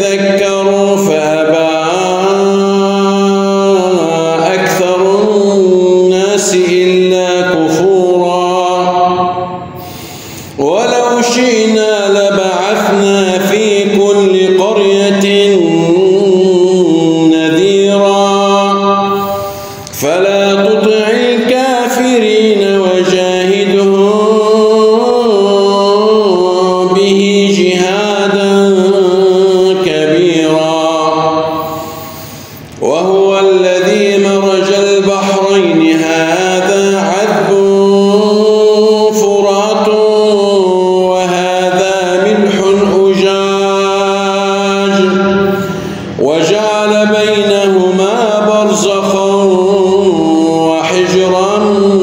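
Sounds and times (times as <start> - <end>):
man chanting melodically: 0.0 - 52.0.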